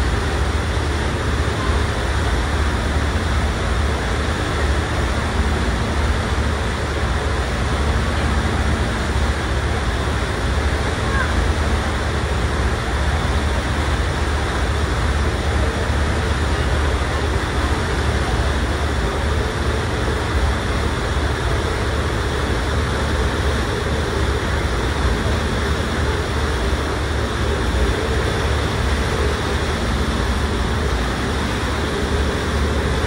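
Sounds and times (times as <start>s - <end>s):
ferry engine rumble: 0.0s - 33.0s
water wash rushing: 0.0s - 33.0s.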